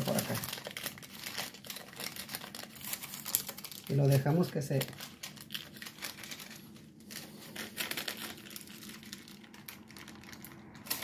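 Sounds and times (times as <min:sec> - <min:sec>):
waxed paper crinkling: 0:00.0 - 0:11.0.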